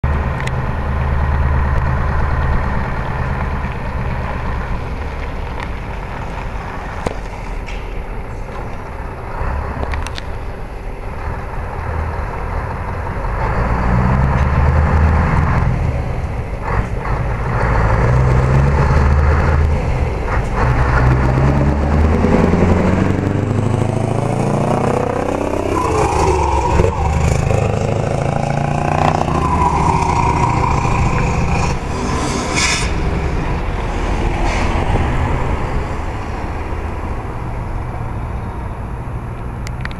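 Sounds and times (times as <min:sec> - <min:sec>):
truck engine running: 0:00.0 - 0:39.2.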